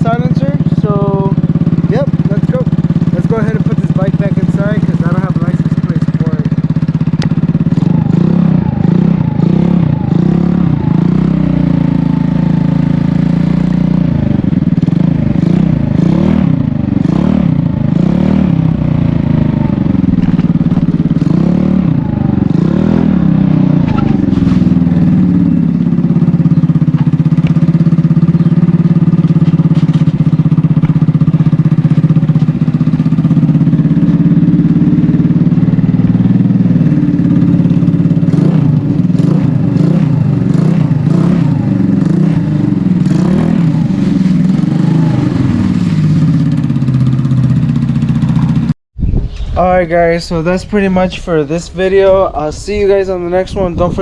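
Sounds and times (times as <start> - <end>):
scooter engine revving: 0.0 - 48.8.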